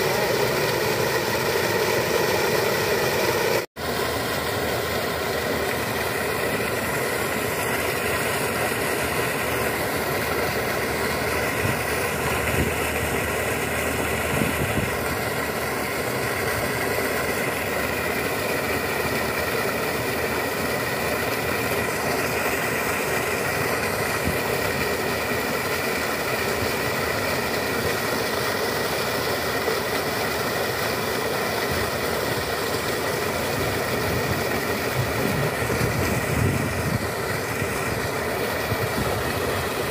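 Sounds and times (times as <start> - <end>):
slurry gushing and splashing: 0.0 - 39.9
steady hum: 0.0 - 39.9.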